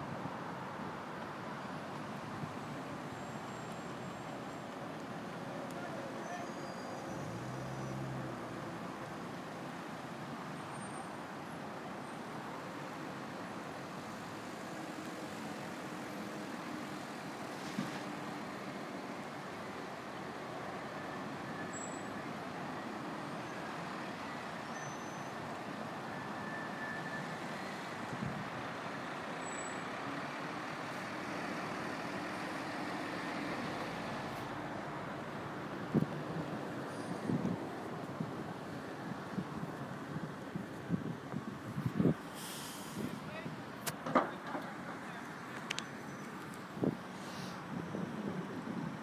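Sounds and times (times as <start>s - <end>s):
heavy traffic rumble: 0.0s - 49.0s.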